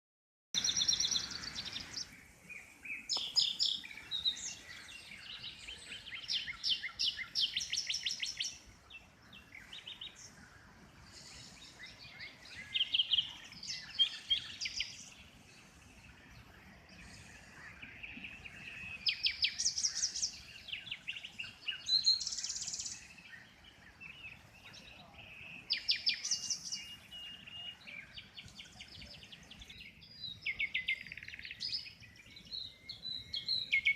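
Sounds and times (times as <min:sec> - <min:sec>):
birds chirping and trilling: 0:00.6 - 0:33.9.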